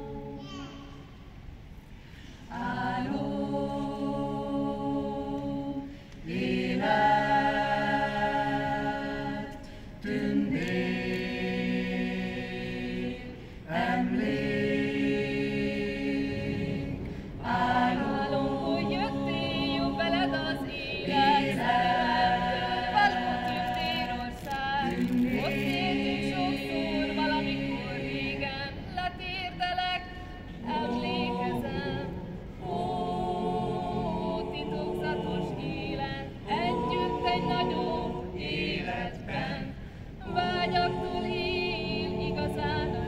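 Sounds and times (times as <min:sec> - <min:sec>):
mixed choir singing a cappella: 0:00.0 - 0:00.6, 0:01.4 - 0:43.0.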